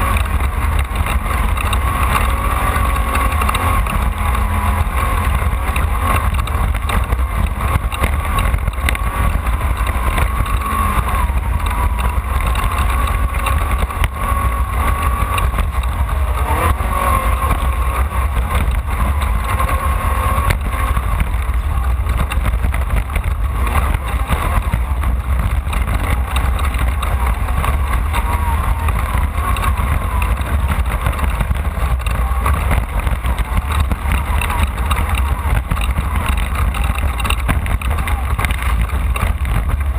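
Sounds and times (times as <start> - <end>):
race vehicle engine drone: 0.0 - 39.9.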